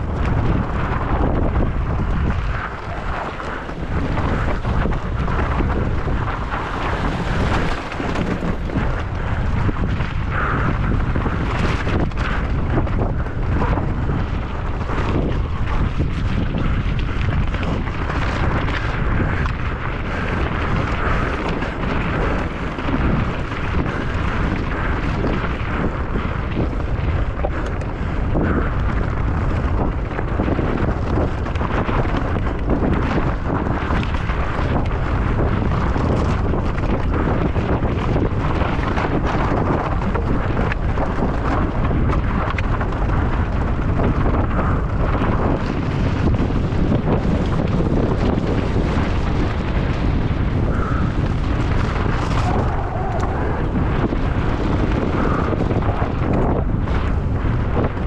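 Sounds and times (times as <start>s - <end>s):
bike clattering over rough ground: 0.0s - 58.0s
wind buffeting microphone: 0.0s - 58.0s.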